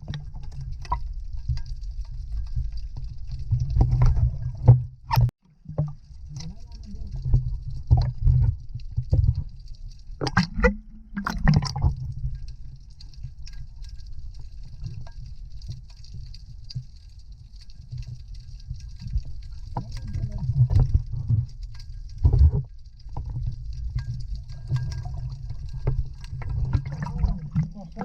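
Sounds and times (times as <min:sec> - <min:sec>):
water sloshing and gurgling: 0:00.0 - 0:28.0.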